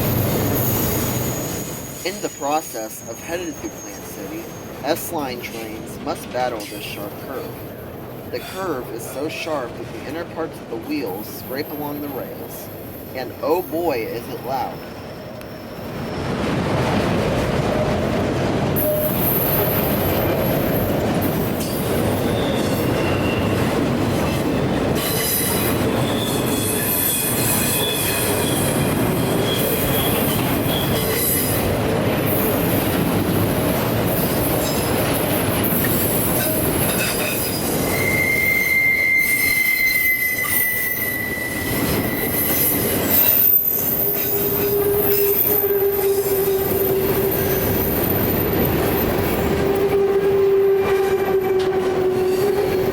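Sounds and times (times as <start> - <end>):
train wheels squealing on rails: 0.0 - 9.6, 10.9 - 16.4, 18.8 - 52.9
train rumble: 0.0 - 52.9.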